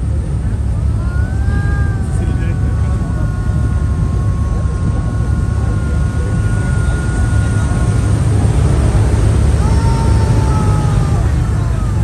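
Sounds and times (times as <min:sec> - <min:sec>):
boat engine low rumble: 0:00.0 - 0:12.0
faint high whine: 0:00.0 - 0:12.0.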